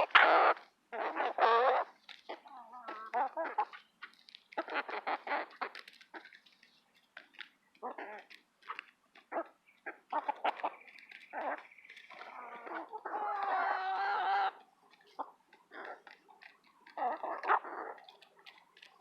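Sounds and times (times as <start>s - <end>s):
hens clucking and squawking: 0.0s - 19.0s.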